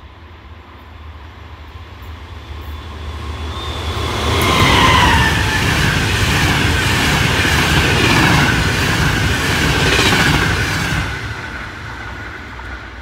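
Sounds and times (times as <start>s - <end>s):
train wheels running over rails: 2.0s - 13.0s.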